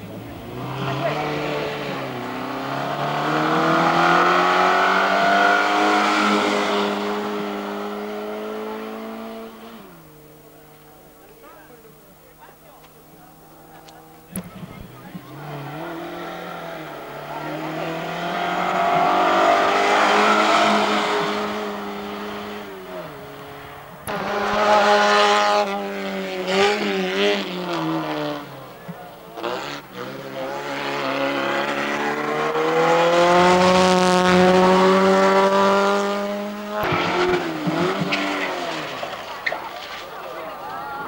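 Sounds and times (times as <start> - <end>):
race car engines accelerating: 0.0 - 41.0.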